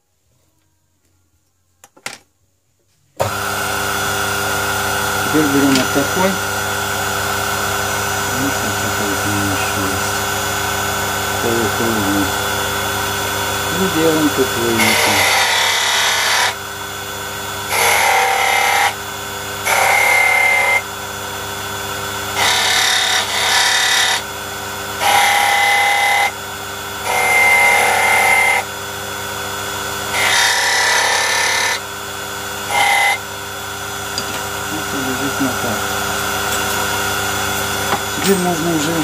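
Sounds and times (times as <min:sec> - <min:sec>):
rotary tool cutting wood: 0:03.2 - 0:39.0.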